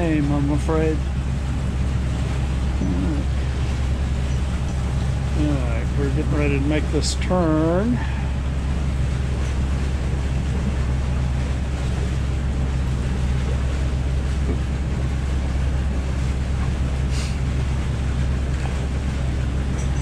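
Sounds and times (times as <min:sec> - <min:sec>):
steady low hum: 0:00.0 - 0:20.0
water noise: 0:00.0 - 0:20.0
wind: 0:00.0 - 0:20.0.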